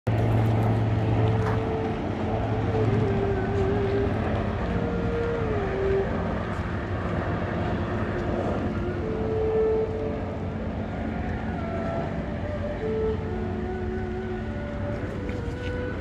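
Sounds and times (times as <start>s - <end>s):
rushing background noise: 0.1s - 16.0s
instrument playing held notes: 0.2s - 16.0s.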